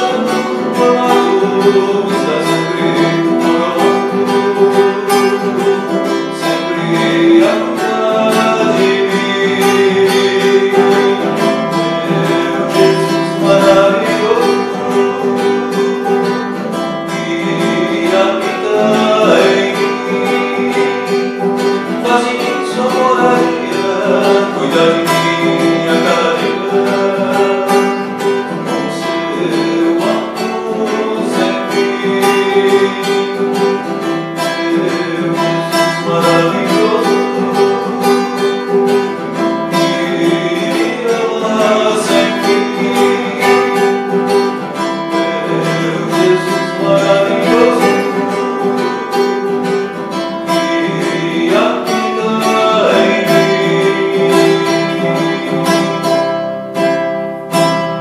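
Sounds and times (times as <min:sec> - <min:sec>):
man singing: 0:00.0 - 0:58.0
strummed classical guitar: 0:00.0 - 0:58.0.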